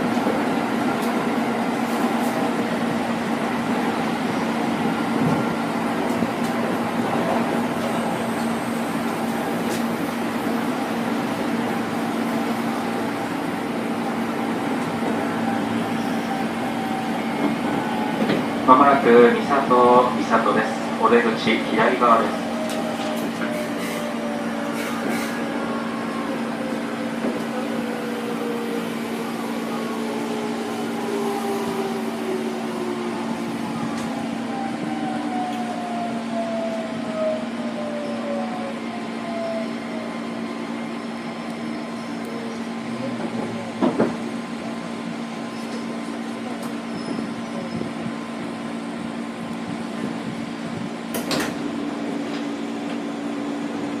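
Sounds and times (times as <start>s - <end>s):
electric train inverter whine: 0.0s - 54.0s
train doors opening: 0.0s - 54.0s.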